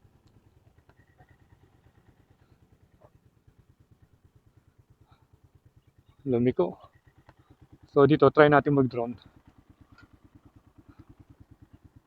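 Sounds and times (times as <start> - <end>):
faint engine idling: 0.0 - 12.0.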